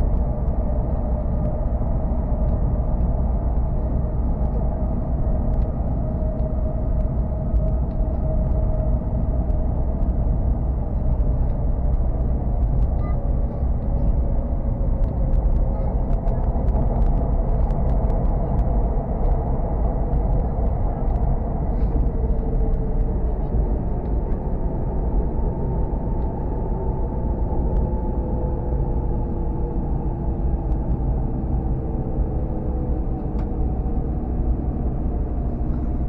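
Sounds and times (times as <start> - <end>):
faint humming tones: 0.0 - 36.0
train rumble inside carriage: 0.0 - 36.0.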